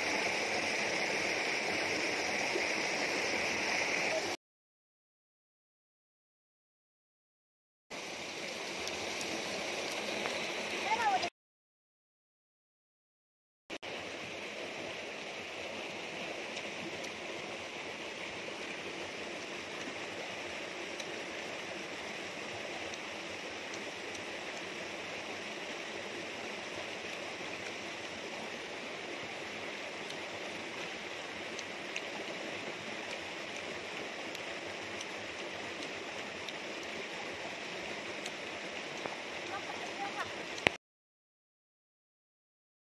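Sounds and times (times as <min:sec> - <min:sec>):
stream rushing over stones: 0:00.0 - 0:04.4, 0:07.9 - 0:11.3, 0:13.8 - 0:40.8.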